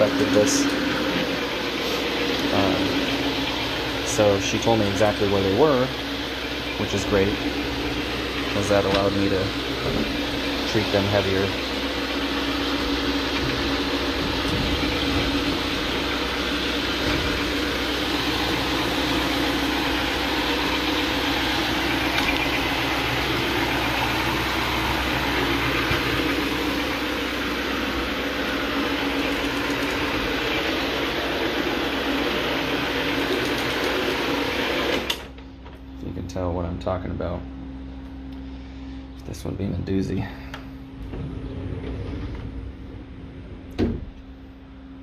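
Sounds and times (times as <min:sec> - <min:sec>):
motor hum: 0:00.0 - 0:45.0.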